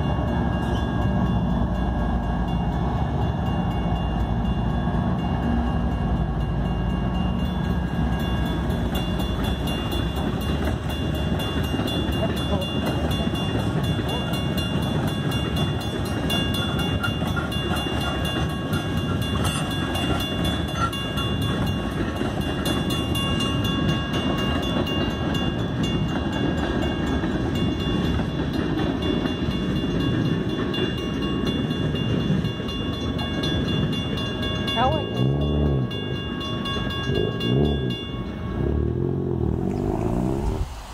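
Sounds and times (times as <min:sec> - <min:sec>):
crossing bell ringing: 0:00.0 - 0:39.9
diesel locomotive engine: 0:00.0 - 0:40.9
freight cars rumbling on rails: 0:00.0 - 0:40.9.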